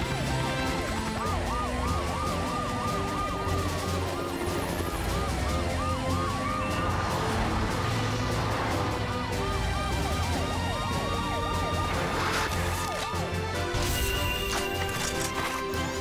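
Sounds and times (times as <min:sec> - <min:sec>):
cartoon sirens wailing: 0:00.0 - 0:13.5
background music with low bass: 0:00.0 - 0:16.0.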